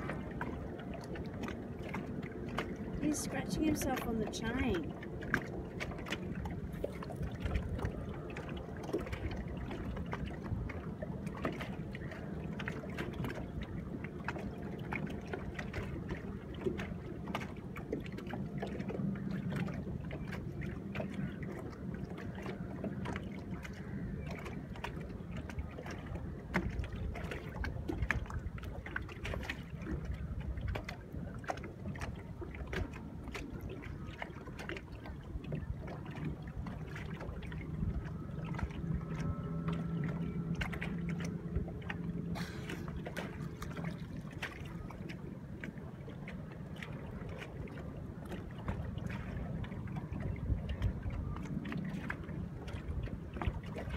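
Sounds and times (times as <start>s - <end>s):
small water splashes: 0.0s - 53.9s
waves lapping against boat hull: 0.0s - 53.9s.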